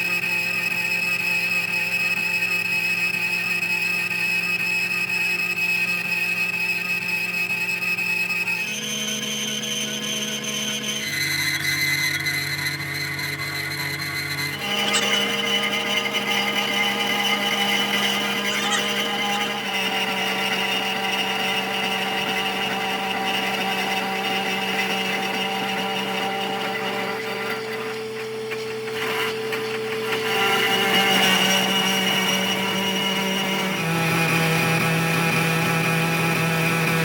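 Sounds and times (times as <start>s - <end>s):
power machinery motor hum and whine: 0.0s - 37.0s.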